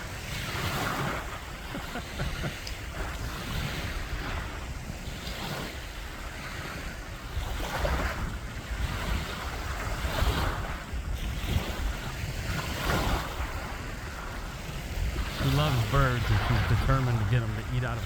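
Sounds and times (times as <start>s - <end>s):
small waves washing on beach: 0.0s - 18.0s
wind rumbling on microphone: 0.0s - 18.0s.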